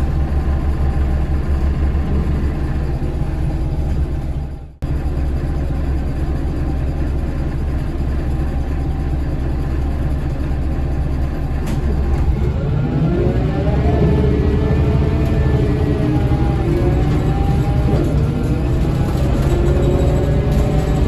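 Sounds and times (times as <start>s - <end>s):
bus diesel engine rumbling: 0.0s - 21.0s.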